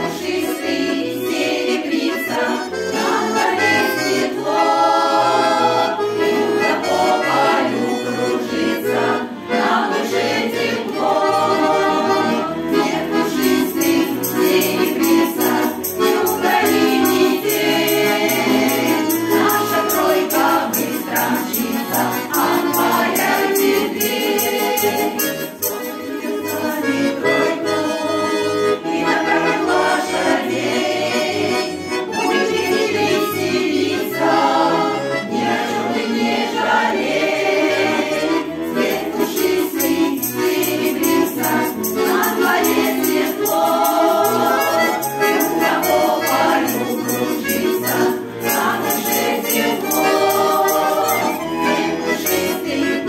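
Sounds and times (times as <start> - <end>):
button accordion folk song: 0.0 - 53.0
voices singing along: 0.0 - 53.0.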